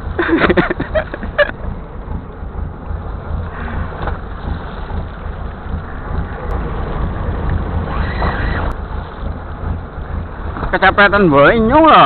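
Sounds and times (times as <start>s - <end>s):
boat engine rumble with hiss: 0.0s - 12.0s.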